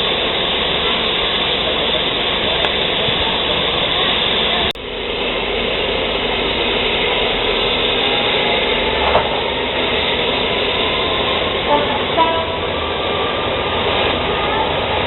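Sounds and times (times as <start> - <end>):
train hissing: 0.0 - 15.0.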